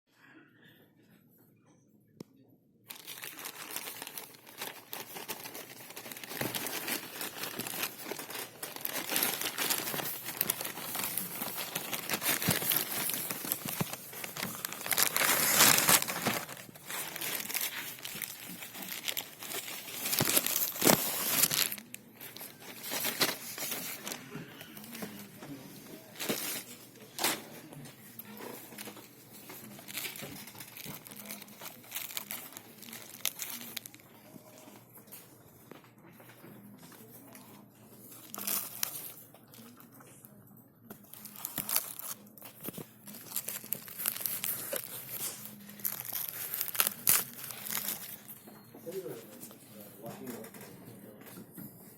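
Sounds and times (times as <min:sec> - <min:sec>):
packaging crinkling and tearing: 0:02.9 - 0:35.2, 0:36.8 - 0:39.8, 0:40.9 - 0:48.5.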